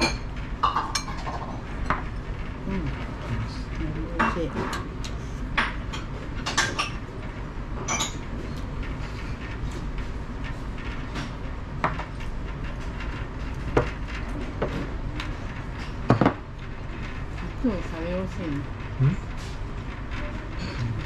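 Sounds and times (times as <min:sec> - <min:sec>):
restaurant room noise: 0:00.0 - 0:21.0.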